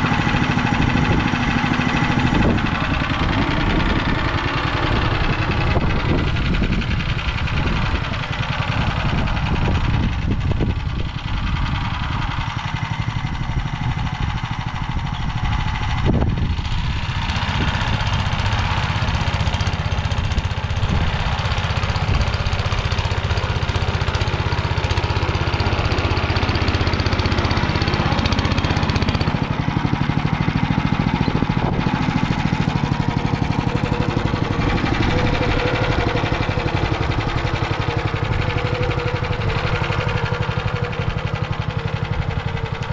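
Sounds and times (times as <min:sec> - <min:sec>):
rotary tiller working soil: 0:00.0 - 0:42.9
tractor engine running: 0:00.0 - 0:42.9.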